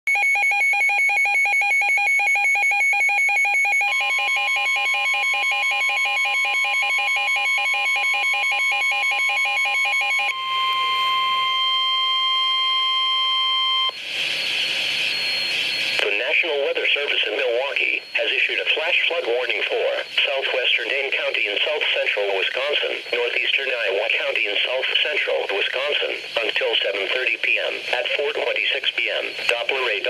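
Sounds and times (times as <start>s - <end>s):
steady warning alarm tone: 0.1s - 30.0s
two-pitch electronic alarm: 0.1s - 30.0s.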